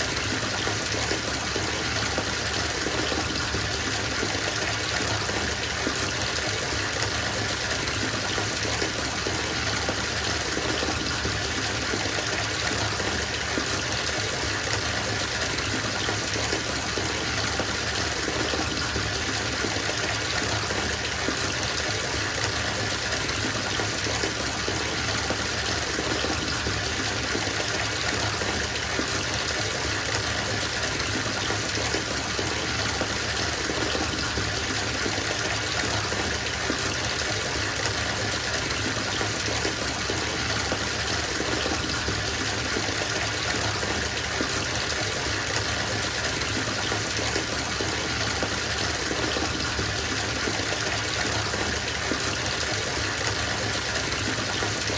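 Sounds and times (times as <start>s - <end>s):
water gushing from tap into tub: 0.0s - 54.9s.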